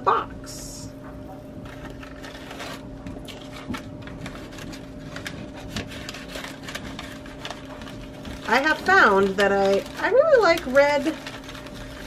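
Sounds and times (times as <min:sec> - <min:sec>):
steady low hum: 0:00.0 - 0:12.0
plastic bag crinkling: 0:01.6 - 0:12.0.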